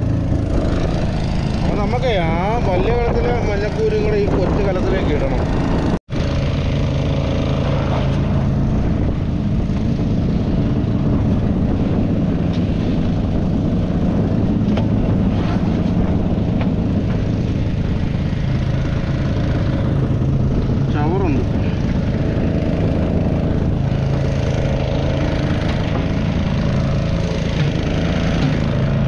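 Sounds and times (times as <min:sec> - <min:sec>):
boat engine running steadily: 0:00.0 - 0:29.0.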